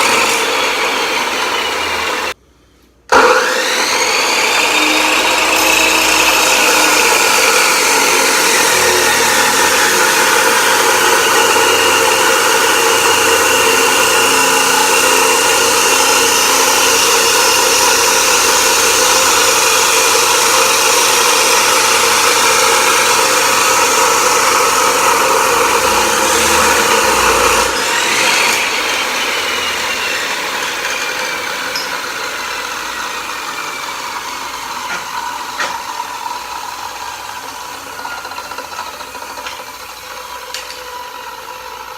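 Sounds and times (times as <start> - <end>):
power tool whining on steel: 0.0 - 2.4, 3.1 - 41.9.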